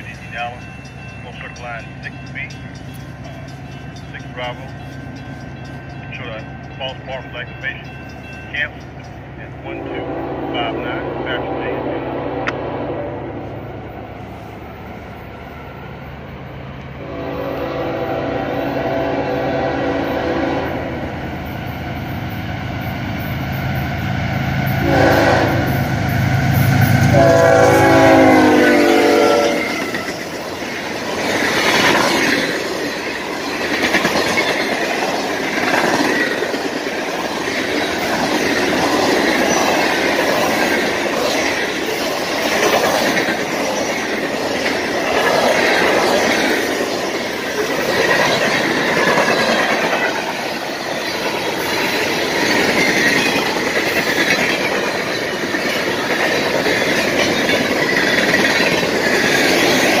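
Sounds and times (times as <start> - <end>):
freight train wheels rumbling: 0.0 - 60.0.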